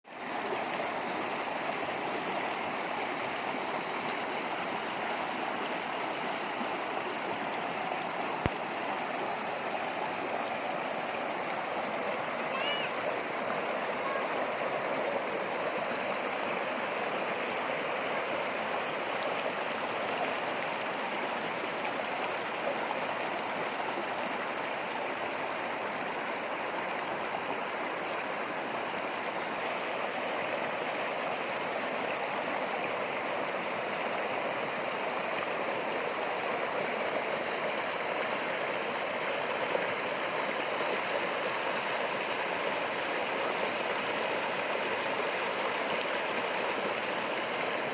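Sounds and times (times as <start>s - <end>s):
river water running over rocks: 0.1s - 47.9s.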